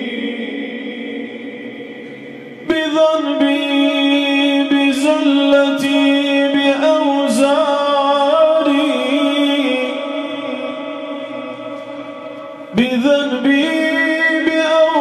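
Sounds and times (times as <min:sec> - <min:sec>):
man singing unaccompanied: 0:00.0 - 0:11.1, 0:12.7 - 0:15.0.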